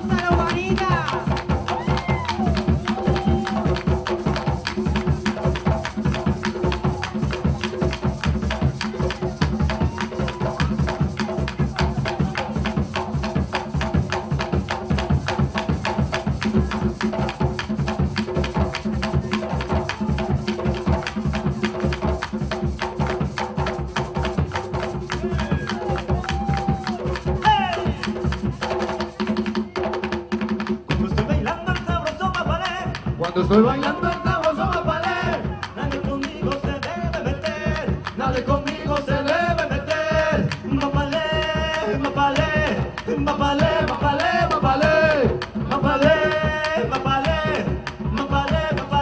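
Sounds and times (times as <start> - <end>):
drums and shakers dance music: 0.0 - 49.0.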